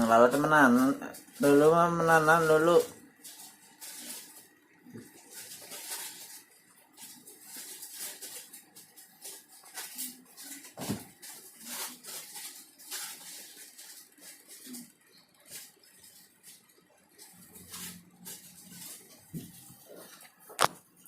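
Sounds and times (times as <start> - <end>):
cats scratching and rustling: 0.2 - 20.9.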